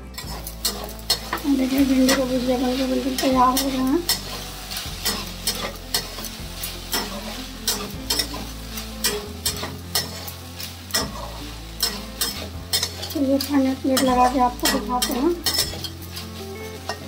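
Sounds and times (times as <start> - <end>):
light sizzle: 0.0 - 17.0
metal spatula scraping pan: 0.1 - 17.0.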